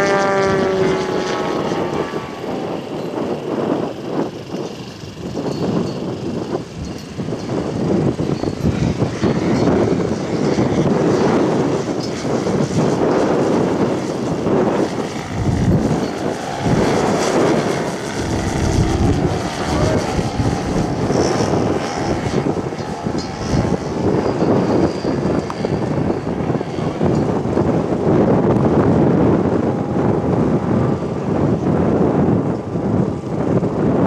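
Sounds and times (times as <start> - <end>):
model plane engine and propeller: 0.0 - 34.0.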